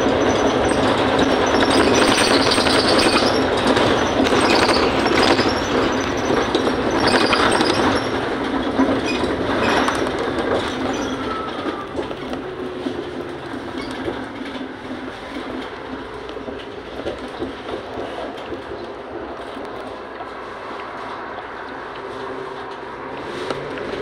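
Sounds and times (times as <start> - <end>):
bus drivetrain and road noise: 0.0 - 24.0.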